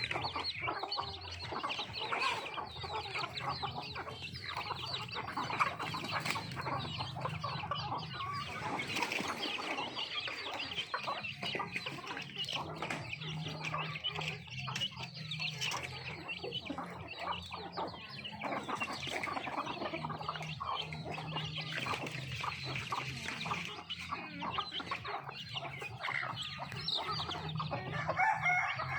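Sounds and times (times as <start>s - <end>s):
chickens clucking: 0.0s - 28.9s.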